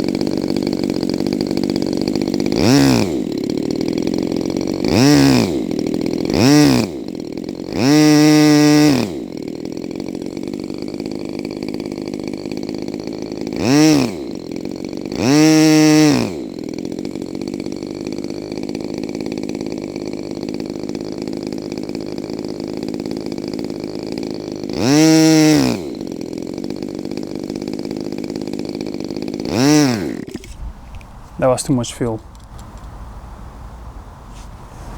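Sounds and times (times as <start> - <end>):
model airplane engine revving: 0.0 - 32.8.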